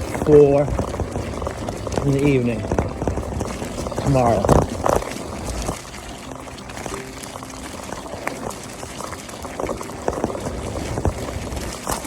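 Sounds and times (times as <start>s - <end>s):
bike tyres rolling on trail: 0.0s - 12.0s.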